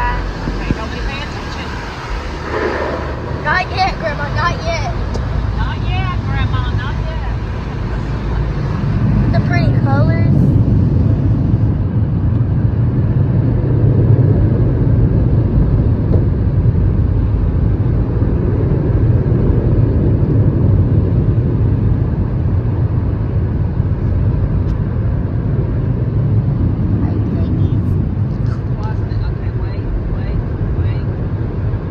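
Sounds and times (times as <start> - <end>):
car wash machinery rumble: 0.0 - 31.9.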